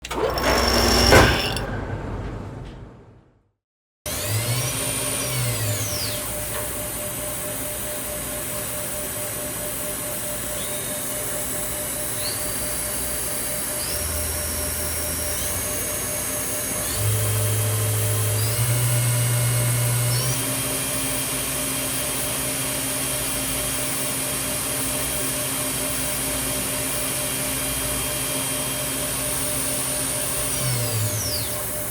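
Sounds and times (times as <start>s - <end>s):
machining center motor whine: 0.0s - 1.6s, 4.1s - 31.9s.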